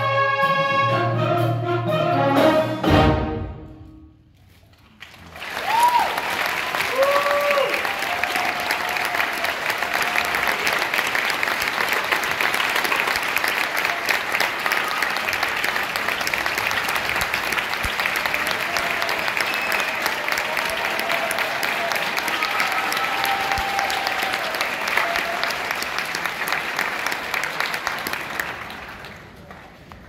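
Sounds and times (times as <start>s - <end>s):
audience applauding: 4.8s - 30.0s.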